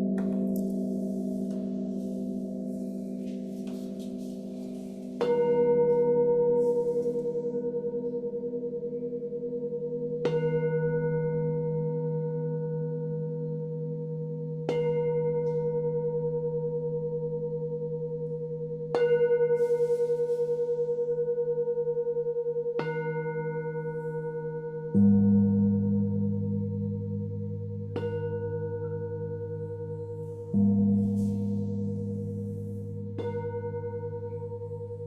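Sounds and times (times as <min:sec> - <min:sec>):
singing bowls ringing: 0:00.0 - 0:35.0.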